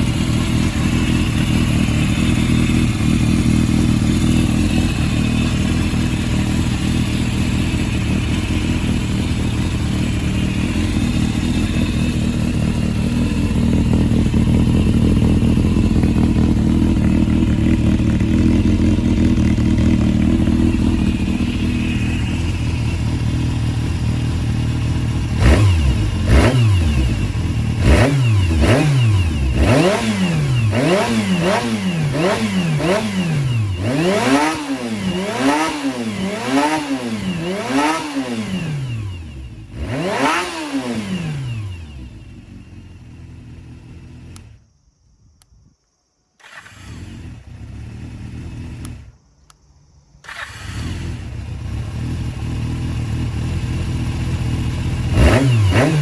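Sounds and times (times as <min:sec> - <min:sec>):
motorcycle engine revving: 0:00.0 - 0:44.6, 0:46.4 - 0:49.2, 0:50.2 - 0:56.0.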